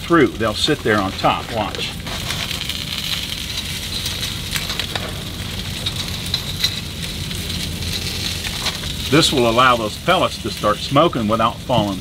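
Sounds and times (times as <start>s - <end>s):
chicken sizzling on grill: 0.0s - 12.0s.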